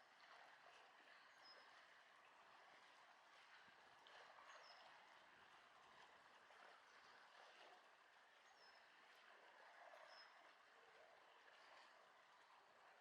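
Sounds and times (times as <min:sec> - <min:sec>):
faint outdoor wash: 0:00.0 - 0:13.0.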